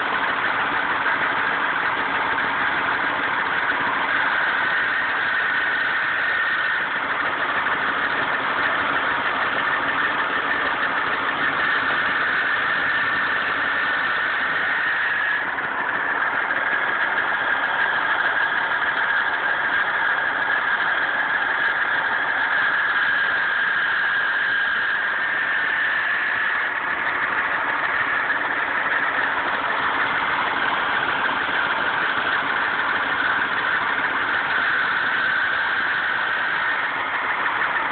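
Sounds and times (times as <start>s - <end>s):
engine idling: 0.0s - 37.9s
high-pitched grinding noise: 0.0s - 37.9s.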